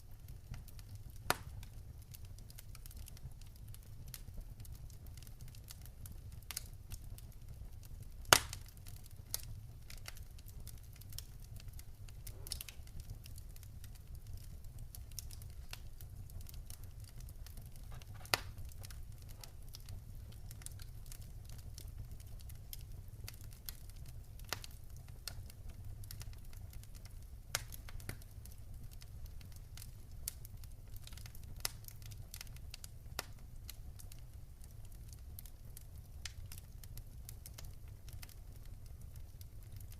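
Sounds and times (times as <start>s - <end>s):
campfire crackling and popping: 0.0s - 39.9s
low steady fire rumble: 0.0s - 39.9s.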